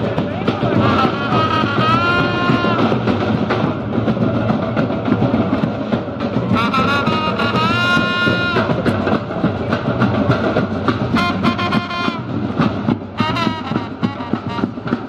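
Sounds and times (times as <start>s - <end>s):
drummers playing fast beat: 0.0s - 15.0s.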